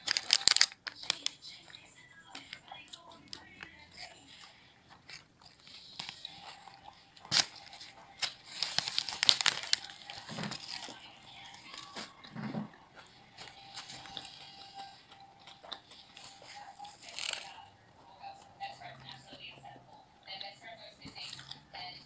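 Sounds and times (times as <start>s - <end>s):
crisp crunching and crinkling: 0.0s - 1.5s, 2.3s - 12.4s, 13.0s - 19.1s, 21.0s - 21.6s
person chewing food: 0.0s - 21.8s.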